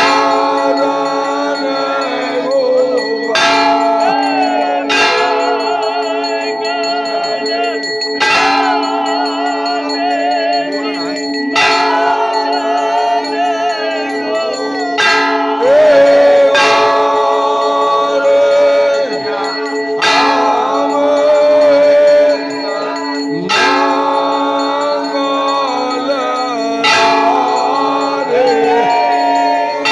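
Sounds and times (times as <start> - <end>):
people singing a hymn: 0.0 - 29.9
temple bells ringing: 0.0 - 29.9.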